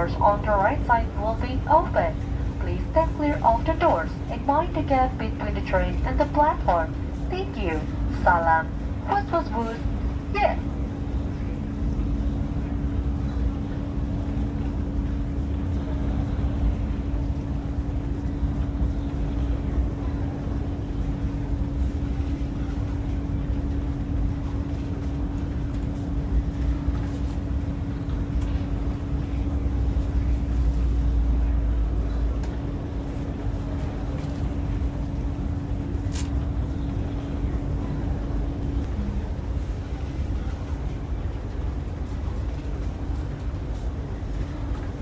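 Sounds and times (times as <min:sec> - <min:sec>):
constant hum: 0:00.0 - 0:45.0
train cabin rumble: 0:00.0 - 0:45.0.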